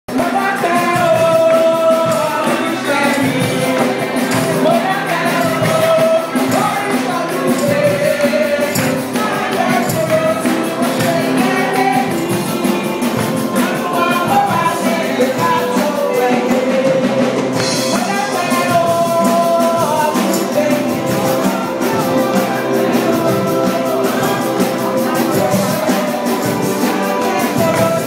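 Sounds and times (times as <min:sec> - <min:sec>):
music with singing: 0:00.1 - 0:28.0
rhythmic percussion: 0:00.1 - 0:28.0.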